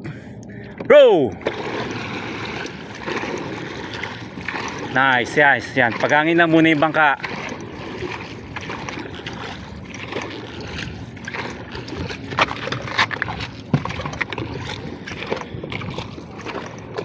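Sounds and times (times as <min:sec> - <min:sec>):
water sloshing around boat hull: 0:00.0 - 0:17.0
paddles dipping in water: 0:00.1 - 0:17.0.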